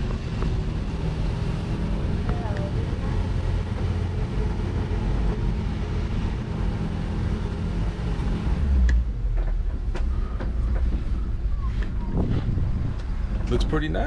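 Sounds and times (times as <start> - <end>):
cart engine humming: 0.0 - 14.0.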